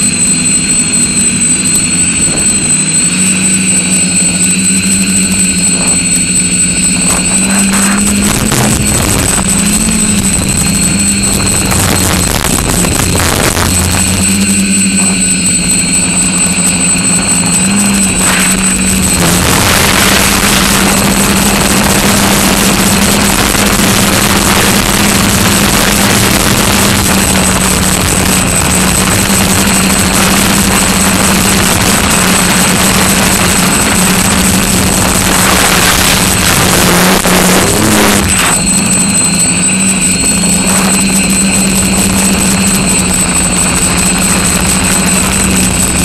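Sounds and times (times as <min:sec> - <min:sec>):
drone motors and propellers humming: 0:00.0 - 0:46.0
wind rushing over microphone: 0:05.0 - 0:46.0.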